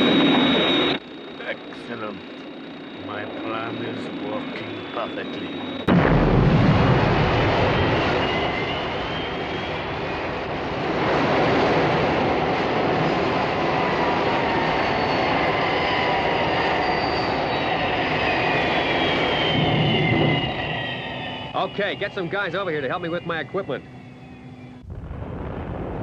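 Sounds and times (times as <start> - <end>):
rocket engine roar with whine: 0.0 - 26.0.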